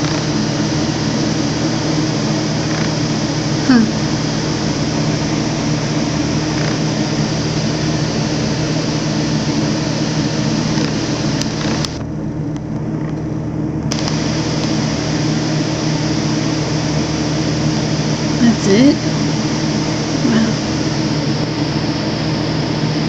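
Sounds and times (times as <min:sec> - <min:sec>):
mechanical hum with low drone: 0:00.0 - 0:23.0.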